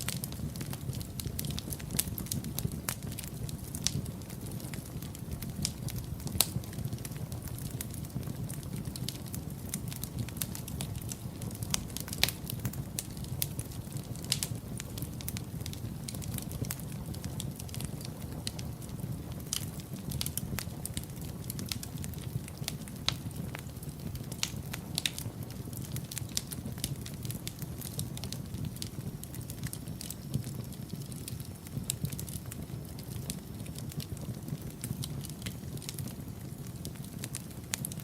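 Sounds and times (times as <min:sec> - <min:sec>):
fire crackling and popping: 0:00.0 - 0:38.0
rumble of flames: 0:00.0 - 0:38.0.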